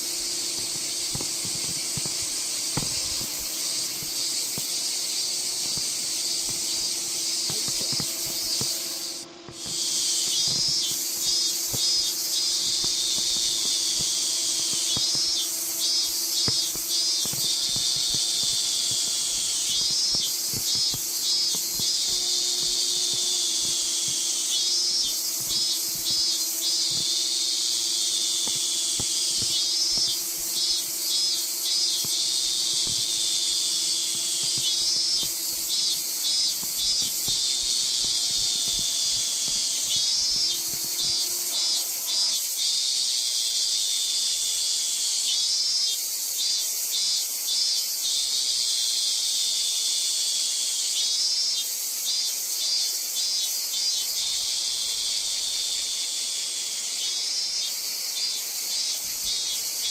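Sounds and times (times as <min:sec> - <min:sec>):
cicadas shrilling: 0:00.0 - 0:59.9.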